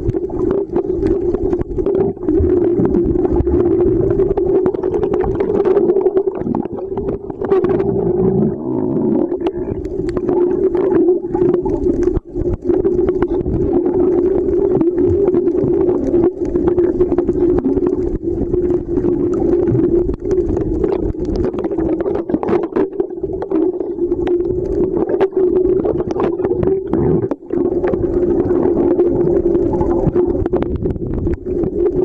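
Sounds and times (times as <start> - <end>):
sharp underwater clicks and crackles: 0.0 - 32.0
underwater low drone: 0.0 - 32.0.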